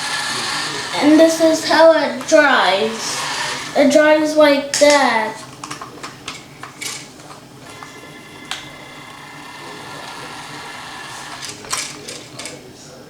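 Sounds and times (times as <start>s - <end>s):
toy electric motor whining: 0.0s - 13.0s.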